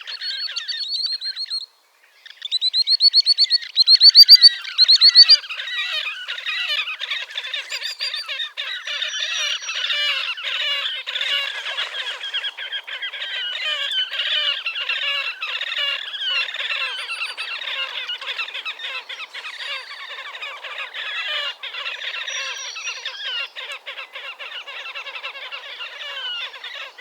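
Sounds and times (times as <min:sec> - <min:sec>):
grebes calling: 0:02.7 - 0:27.0.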